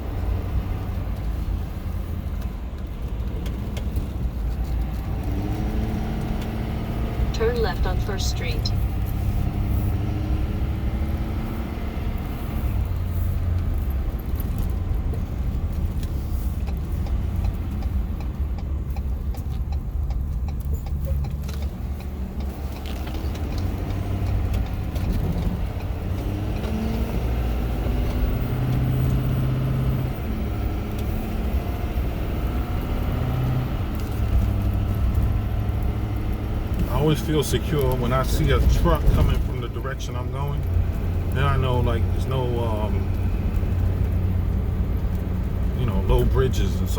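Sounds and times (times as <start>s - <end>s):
clicking and rattling in cab: 0.0s - 9.2s, 12.8s - 42.4s
road noise: 0.0s - 46.9s
truck engine rumble: 0.0s - 46.9s.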